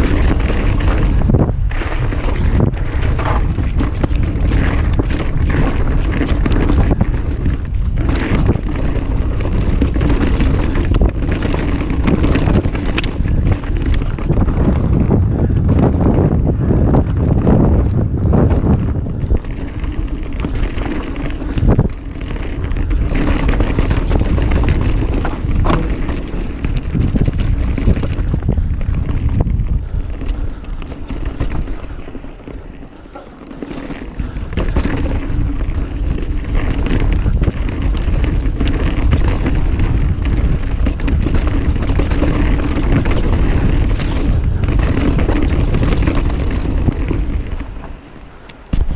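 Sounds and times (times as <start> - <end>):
bike tyres on dirt: 0.0 - 48.9
wind buffeting microphone: 0.0 - 48.9.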